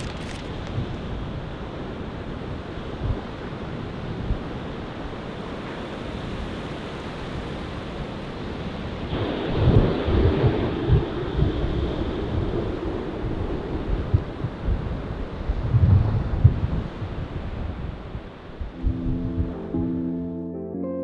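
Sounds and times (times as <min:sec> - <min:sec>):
low rumbling wind buffets: 0:00.0 - 0:19.9
ocean surf: 0:00.0 - 0:20.3
wind: 0:00.0 - 0:20.3.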